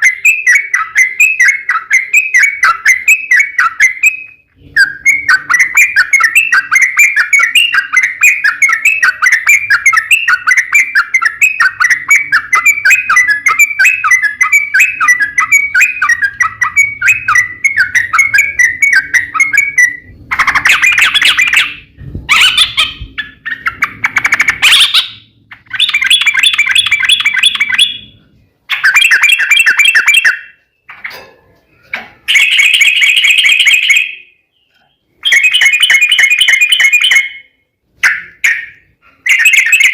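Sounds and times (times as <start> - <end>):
bulbul song: 0.0 - 30.9, 32.3 - 39.9.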